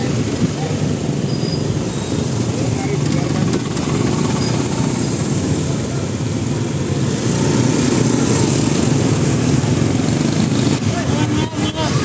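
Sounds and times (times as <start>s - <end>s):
motorcycle traffic: 0.0s - 12.0s.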